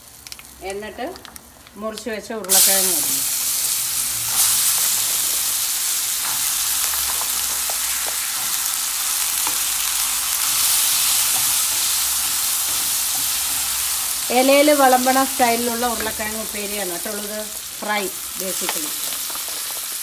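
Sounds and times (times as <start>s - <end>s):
potatoes sizzling in hot oil: 0.0s - 20.0s.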